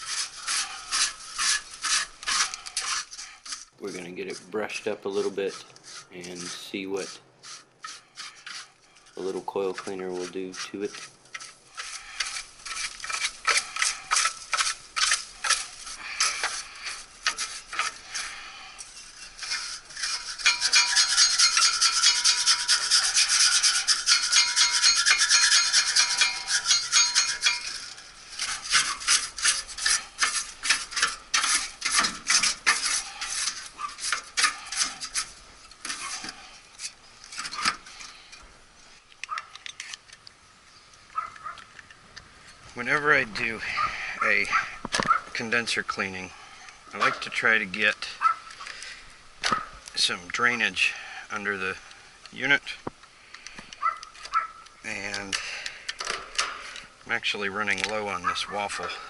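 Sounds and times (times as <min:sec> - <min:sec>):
stiff brush scrubbing metal fins: 0:00.0 - 0:40.2, 0:42.7 - 0:59.0.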